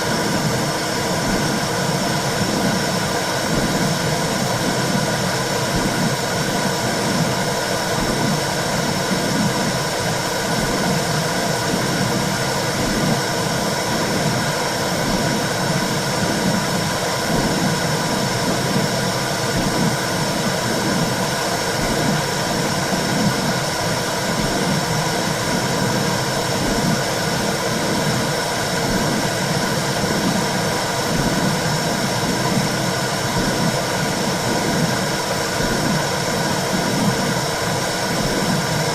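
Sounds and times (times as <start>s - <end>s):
low rhythmic pulse: 0.0s - 38.9s.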